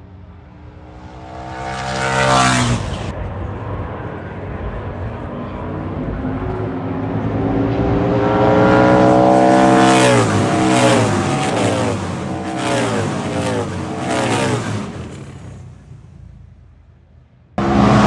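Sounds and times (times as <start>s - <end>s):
motorcycles racing past: 0.2s - 16.3s, 17.6s - 18.0s.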